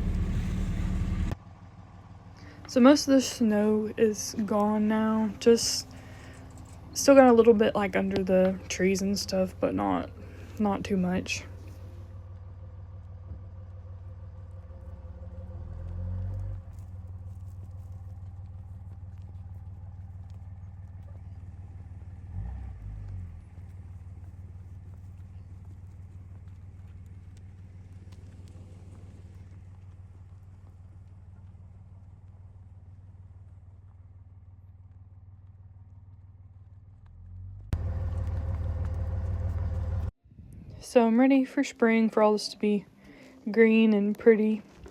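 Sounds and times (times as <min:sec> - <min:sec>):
vehicle engine humming: 0:00.0 - 0:44.9.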